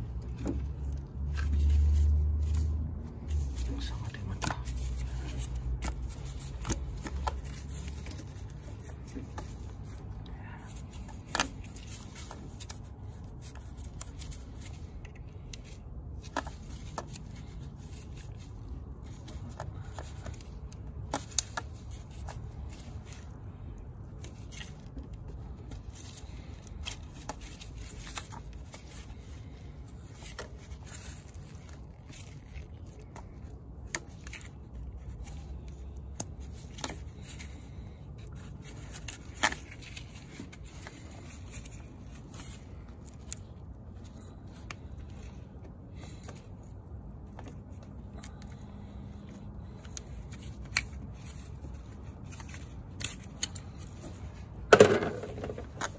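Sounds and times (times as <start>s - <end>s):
gloved hands rustling and rubbing: 0.0s - 55.9s.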